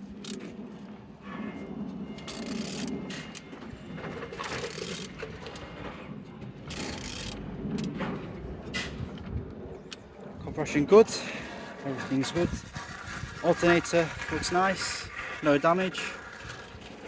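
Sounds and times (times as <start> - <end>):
engine clicking and scraping: 0.0 - 17.0.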